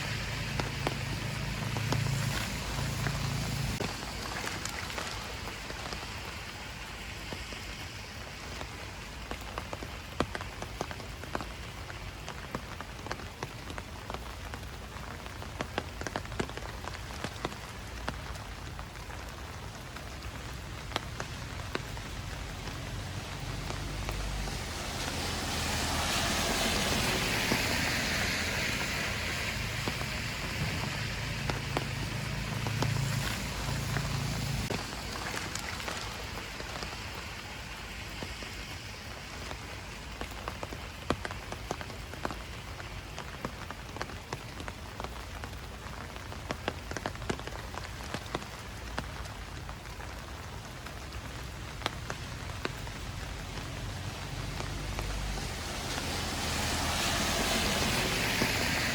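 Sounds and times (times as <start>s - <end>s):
light rain: 0.0s - 58.9s
water dripping onto leaves: 0.0s - 58.9s.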